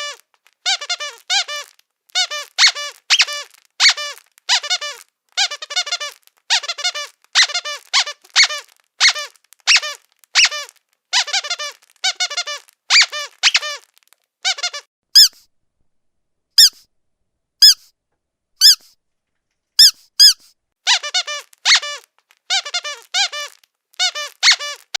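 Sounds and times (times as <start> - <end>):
squeaky dog toy: 0.0 - 15.5, 16.6 - 16.9, 17.6 - 17.9, 18.6 - 19.0, 19.8 - 25.0.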